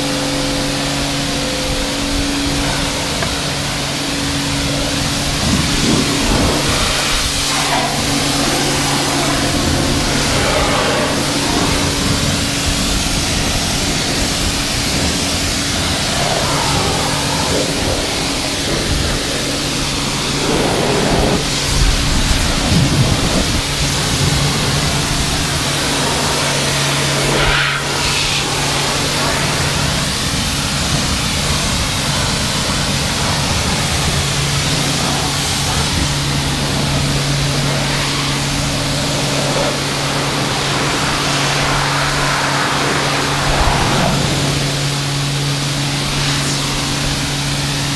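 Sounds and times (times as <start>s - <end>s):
hissing water jet: 0.0s - 47.9s
pressure washer humming: 0.0s - 47.9s.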